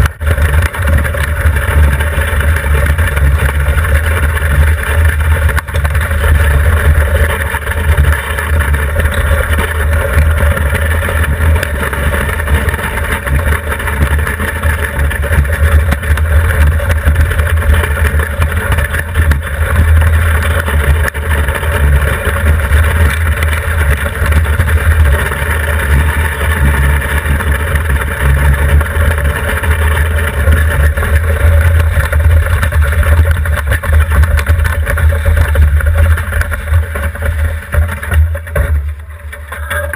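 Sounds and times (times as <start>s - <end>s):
runners rumbling over ice: 0.0s - 39.9s.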